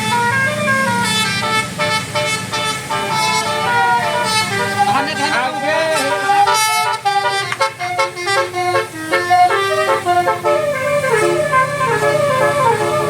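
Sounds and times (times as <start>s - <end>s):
bus engine humming: 0.0s - 13.0s
bus horn playing a melody: 0.0s - 13.0s.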